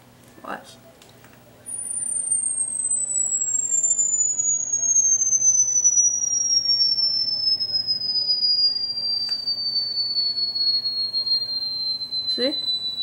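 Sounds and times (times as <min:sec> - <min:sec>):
electronic tone gliding down: 0:01.7 - 0:13.0.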